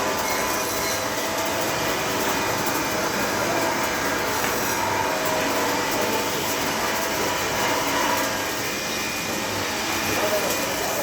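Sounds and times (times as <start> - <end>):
welding arc crackling: 0.0 - 11.0.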